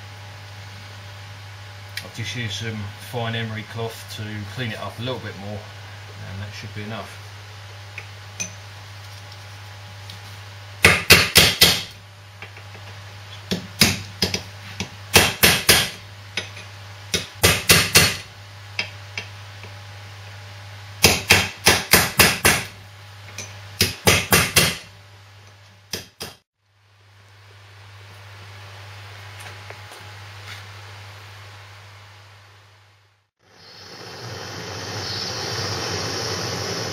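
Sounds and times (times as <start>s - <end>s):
steady low hum: 0.0s - 25.9s, 26.6s - 36.9s.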